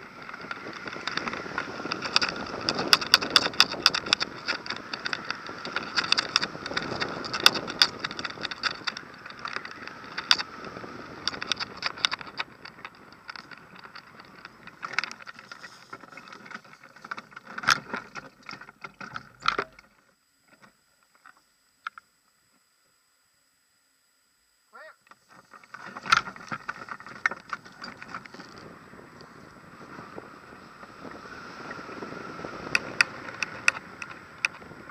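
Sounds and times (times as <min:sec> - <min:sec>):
rapid rattling clicks: 0:00.0 - 0:20.0, 0:25.1 - 0:34.9.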